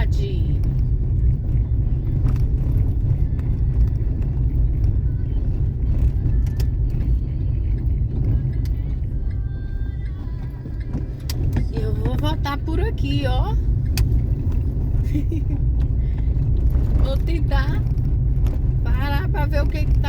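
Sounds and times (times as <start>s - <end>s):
car engine and road noise: 0.0s - 20.0s
faint clicks and rattles: 0.5s - 20.0s.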